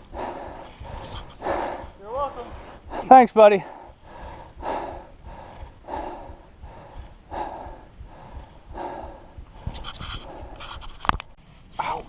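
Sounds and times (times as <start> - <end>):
person breathing hard: 0.0 - 11.0.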